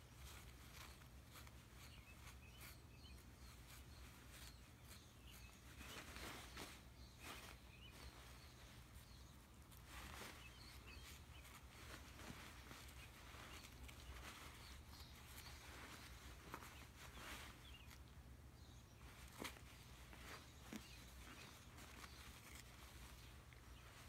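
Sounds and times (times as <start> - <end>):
fabric rustling: 0.0 - 24.0
faint high chirps: 0.2 - 24.0.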